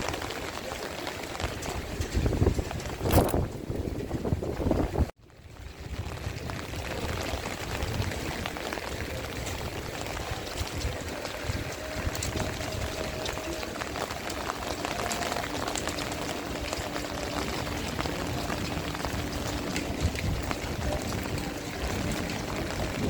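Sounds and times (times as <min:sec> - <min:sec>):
heavy rain falling: 0:00.0 - 0:23.0
wind on microphone: 0:00.0 - 0:23.0.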